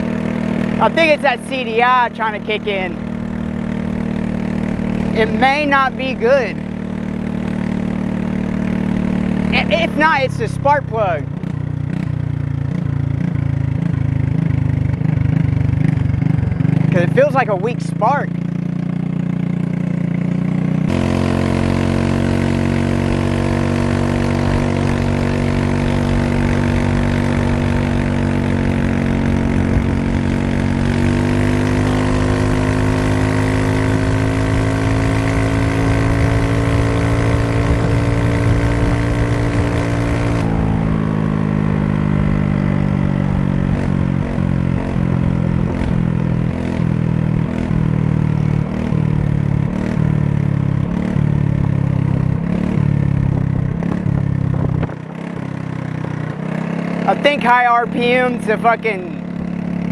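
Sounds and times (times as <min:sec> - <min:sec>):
scooter engine revving: 0:00.0 - 0:59.9
wind and road rush: 0:00.0 - 0:59.9.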